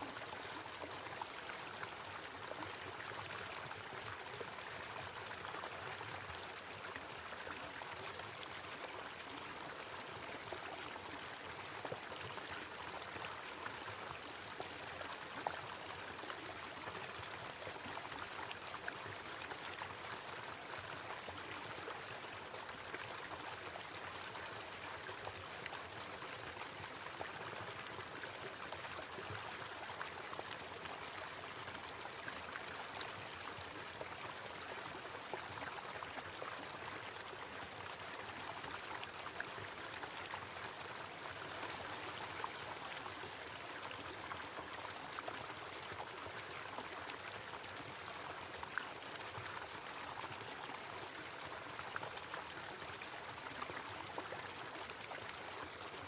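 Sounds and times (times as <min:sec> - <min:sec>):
small waterfall pouring: 0:00.0 - 0:56.0.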